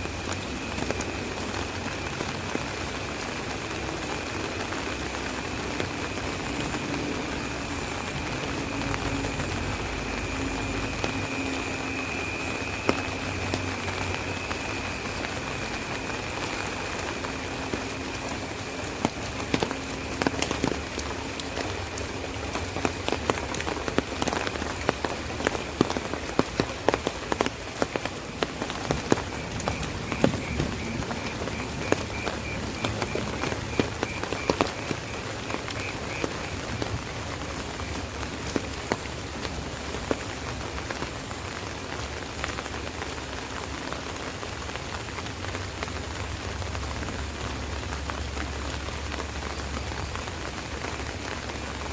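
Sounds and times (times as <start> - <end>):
rain hissing: 0.0 - 51.9
raindrops tapping on umbrella: 0.0 - 51.9.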